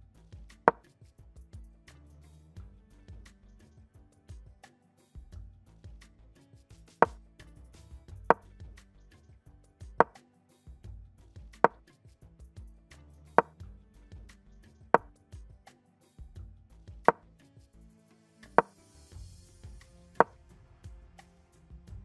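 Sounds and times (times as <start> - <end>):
soft background music: 0.0 - 22.0.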